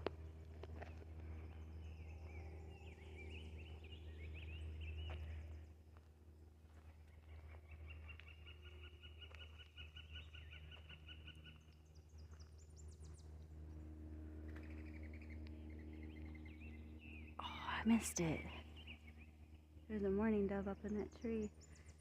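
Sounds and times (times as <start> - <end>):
faint songbirds singing: 0.0 - 22.0.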